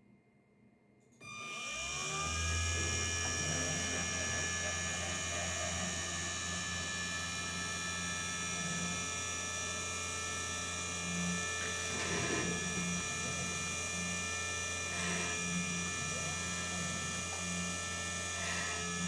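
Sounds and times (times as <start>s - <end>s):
high-pitched machine whines: 1.2s - 19.0s
machine electrical hum: 1.2s - 19.0s.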